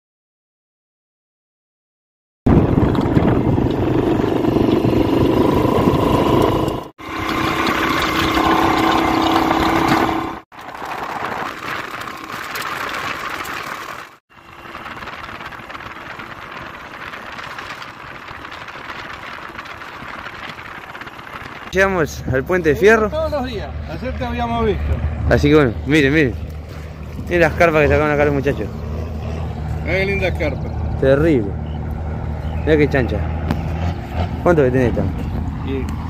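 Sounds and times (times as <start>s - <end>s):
road and wind noise: 2.5s - 36.0s
vehicle engine running: 2.5s - 36.0s.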